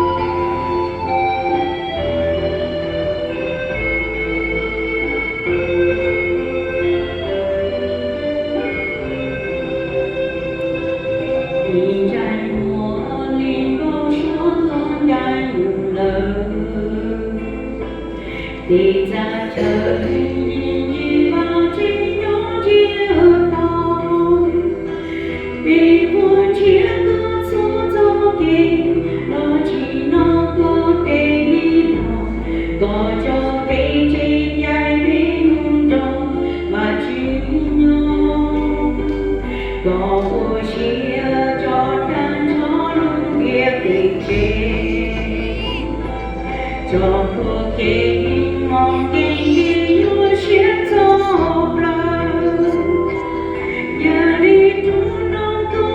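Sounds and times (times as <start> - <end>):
held low bass notes: 0.0 - 55.9
congregation singing a hymn: 8.6 - 55.9.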